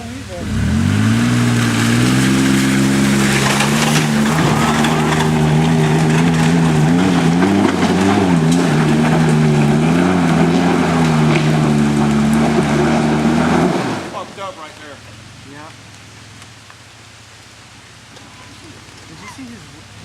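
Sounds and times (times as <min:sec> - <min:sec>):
pickup engine at full throttle: 0:00.0 - 0:20.0.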